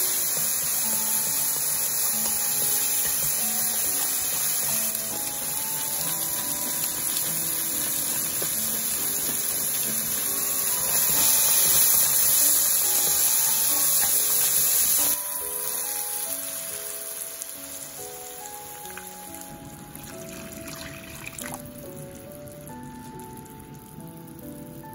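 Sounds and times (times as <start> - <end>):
food sizzling in frying pan: 0.0 - 24.9
light background melody: 0.0 - 24.9.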